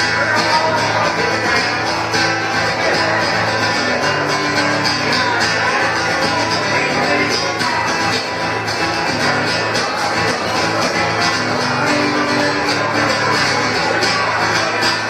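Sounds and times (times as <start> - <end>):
acoustic guitar: 0.0 - 15.0
country band music: 0.0 - 15.0.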